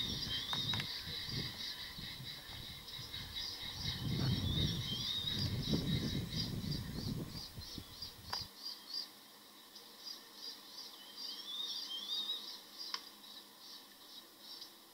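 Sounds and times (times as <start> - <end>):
birds calling: 0.0 - 14.9.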